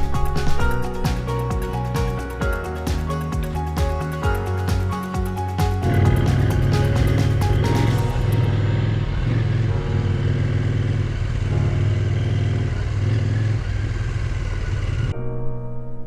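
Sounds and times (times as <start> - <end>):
motorcycle engine cruising: 0.0 - 15.1.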